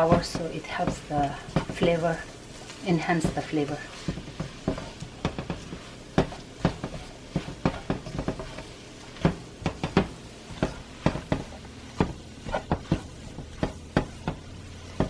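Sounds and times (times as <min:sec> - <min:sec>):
utensil knocking against a pan: 0:00.0 - 0:02.1, 0:03.2 - 0:15.0
utensil stirring in a pan: 0:00.0 - 0:15.0.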